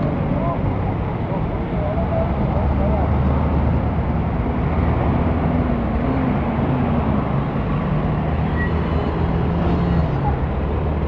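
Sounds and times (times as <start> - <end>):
vehicle traffic engines humming: 0.0 - 11.0.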